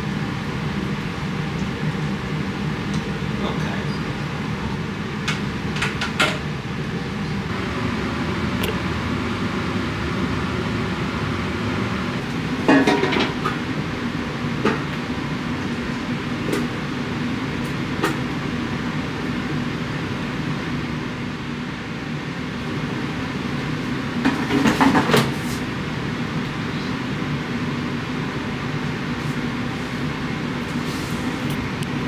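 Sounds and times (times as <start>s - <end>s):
appliance fan humming: 0.0s - 32.0s.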